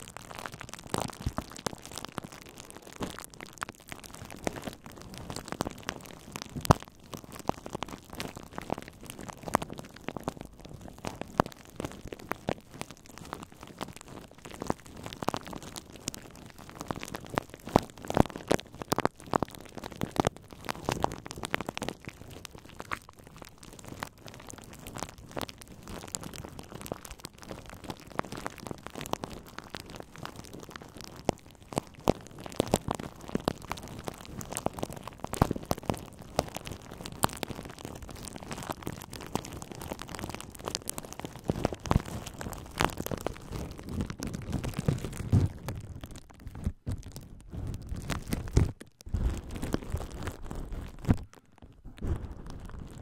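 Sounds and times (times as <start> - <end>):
bubble wrap crinkling and crackling: 0.0 - 53.0.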